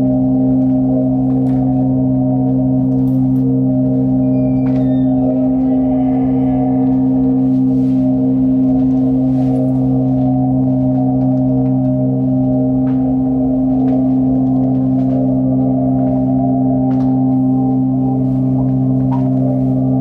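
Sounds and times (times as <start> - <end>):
ambient drone music: 0.0 - 20.0.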